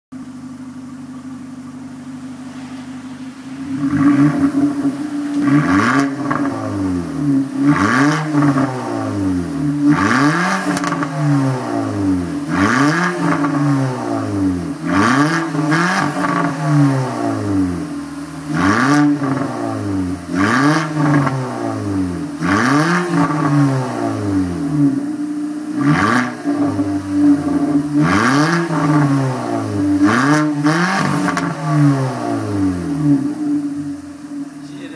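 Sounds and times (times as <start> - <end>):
car engine revving: 0.2 - 34.9.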